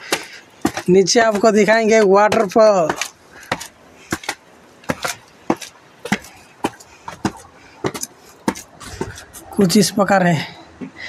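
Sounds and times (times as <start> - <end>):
footsteps on hard surface: 0.0 - 9.7.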